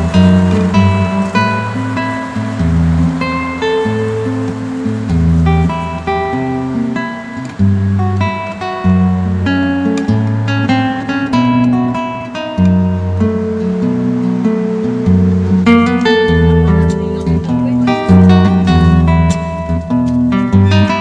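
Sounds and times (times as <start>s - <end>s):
acoustic guitar tune: 0.0s - 21.0s
bass notes: 0.0s - 21.0s.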